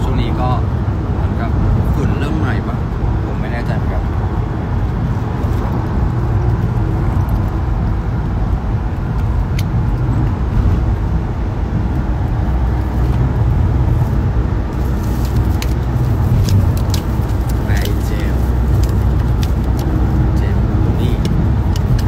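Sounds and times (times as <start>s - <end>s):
coach engine rumble from inside: 0.0s - 22.0s.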